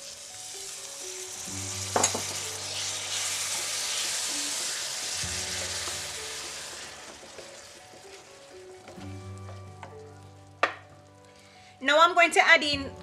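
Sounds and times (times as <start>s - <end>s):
peas sizzling in oil: 0.0s - 12.6s.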